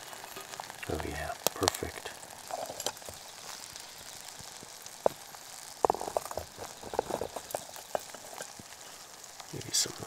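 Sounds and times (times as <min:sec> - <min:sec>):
eggs and bacon sizzling in a pan: 0:00.0 - 0:10.0.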